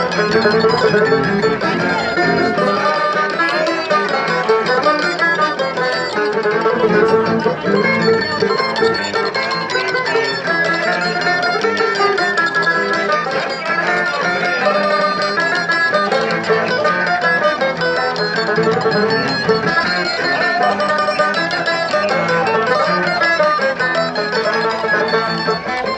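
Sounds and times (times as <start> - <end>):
acoustic guitar plucked: 0.0 - 25.9
banjo: 0.0 - 25.9
mandolin: 0.0 - 25.9.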